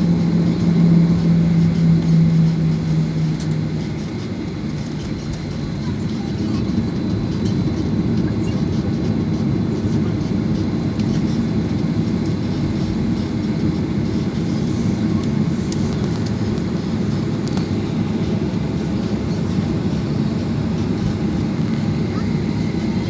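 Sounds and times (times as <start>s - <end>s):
aircraft cabin engine rumble: 0.0s - 23.0s.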